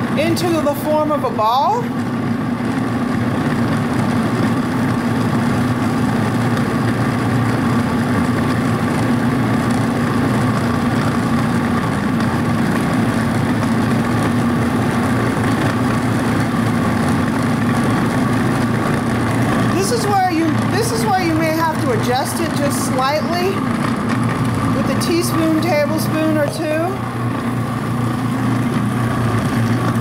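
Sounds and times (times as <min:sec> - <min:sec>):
food processor churning dough: 0:00.0 - 0:30.0.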